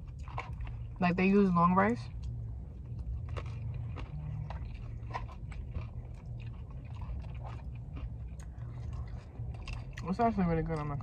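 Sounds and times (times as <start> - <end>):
person chewing with wet clicks: 0.0 - 11.0.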